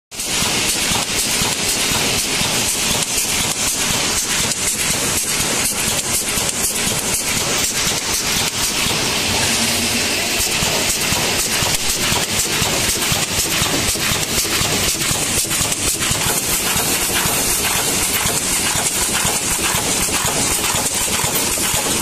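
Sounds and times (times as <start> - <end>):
welding machine clatter: 0.2 - 22.0.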